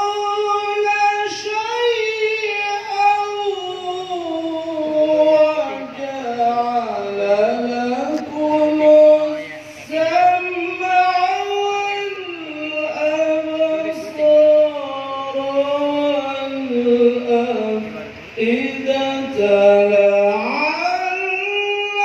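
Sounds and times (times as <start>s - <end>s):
man reciting melodically: 0.0s - 22.0s.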